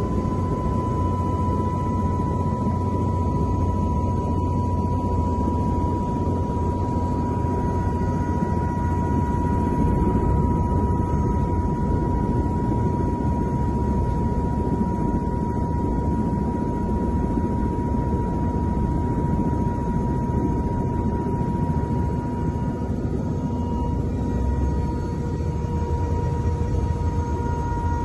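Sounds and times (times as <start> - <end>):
helicopter rotor and turbine drone: 0.0 - 28.0
thin high whine: 0.0 - 28.0.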